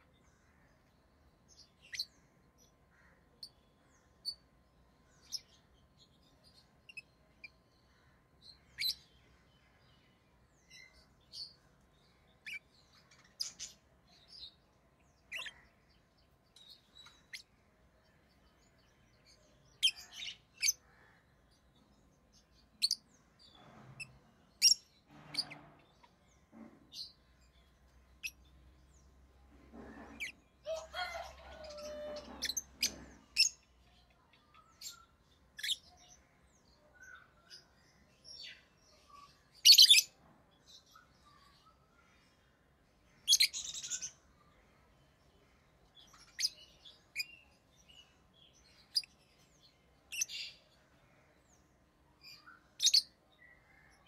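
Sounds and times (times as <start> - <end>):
lovebirds chirping: 0.0 - 53.9.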